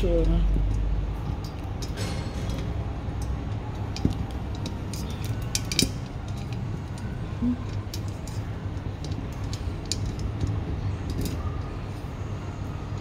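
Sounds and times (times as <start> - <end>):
wire rack clicking and clinking: 0.0 - 12.2.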